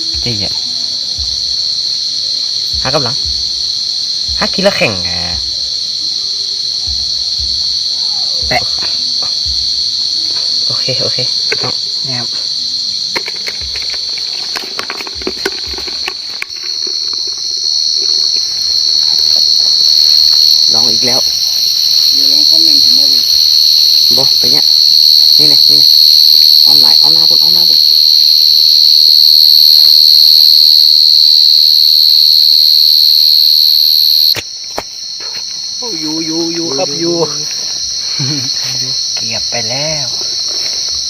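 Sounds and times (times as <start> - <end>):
cricket trilling: 0.0 - 41.0.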